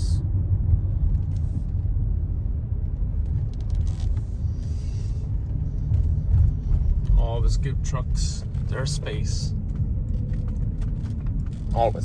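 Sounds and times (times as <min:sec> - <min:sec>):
road rumble: 0:00.0 - 0:12.0
truck engine rumble: 0:00.0 - 0:12.0.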